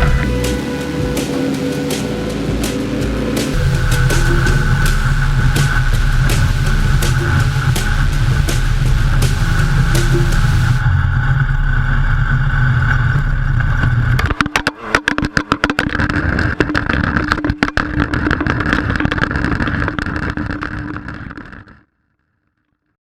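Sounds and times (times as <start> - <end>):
race vehicle engine running hard: 0.0 - 19.2.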